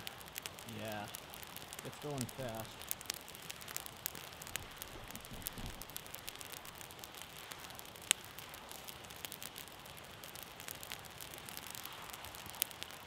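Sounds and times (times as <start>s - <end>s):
campfire crackling: 0.0s - 13.0s
campfire pops: 0.0s - 13.0s.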